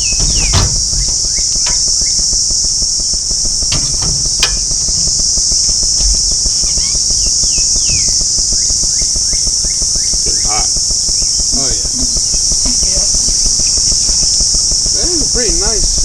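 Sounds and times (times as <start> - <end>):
high-pitched insect drone: 0.0 - 16.0
wind rumble on microphone: 0.0 - 16.0.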